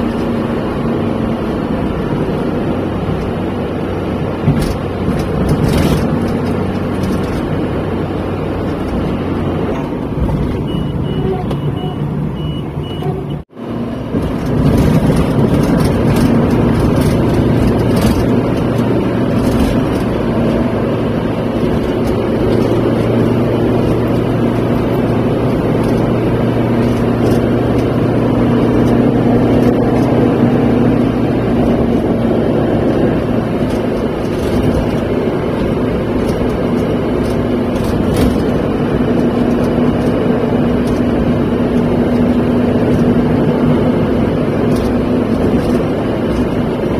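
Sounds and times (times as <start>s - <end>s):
car interior road and engine drone: 0.0s - 46.9s.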